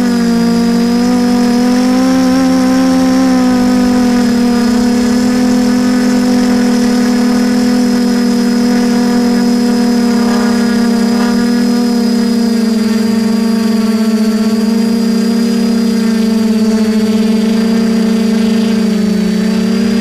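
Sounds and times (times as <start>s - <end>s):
drone motors humming: 0.0s - 20.0s.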